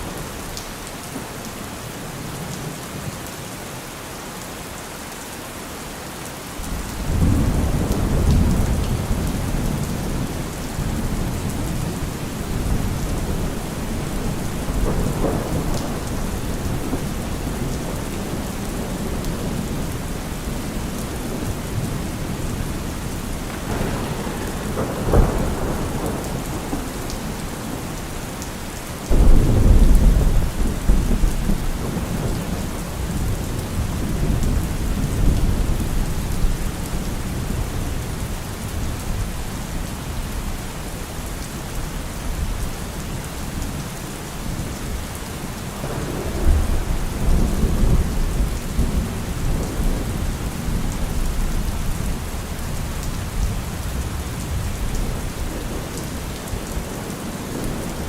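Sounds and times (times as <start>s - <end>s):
heavy rain falling: 0.0s - 58.0s
thunder clap and rumble: 6.6s - 40.6s, 44.4s - 58.0s.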